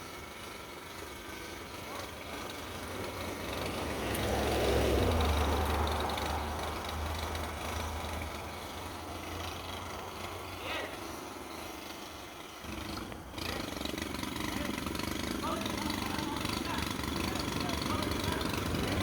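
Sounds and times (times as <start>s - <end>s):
large engine rumble: 0.0s - 19.0s
outdoor background noise: 0.0s - 19.0s.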